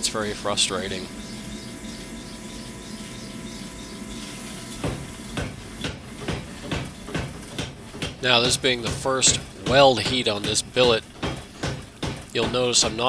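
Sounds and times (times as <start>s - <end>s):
machinery hum: 0.0s - 13.0s
power hammer striking hot metal: 0.0s - 13.0s.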